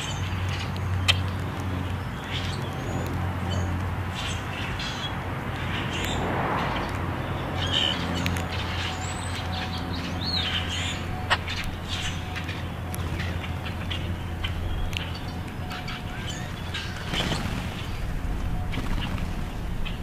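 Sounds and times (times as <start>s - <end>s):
birds chirping and squeaking: 0.0s - 20.0s
steady low hum: 1.4s - 20.0s.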